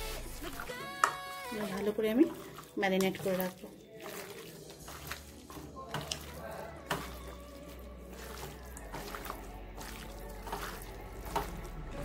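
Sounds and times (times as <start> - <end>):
wet squelching of meat: 1.3 - 12.0.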